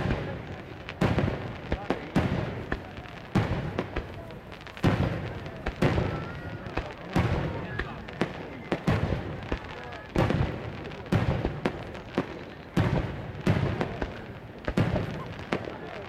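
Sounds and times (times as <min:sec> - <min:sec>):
fireworks bangs: 0:00.0 - 0:16.0
fireworks pops and crackle: 0:00.0 - 0:16.0.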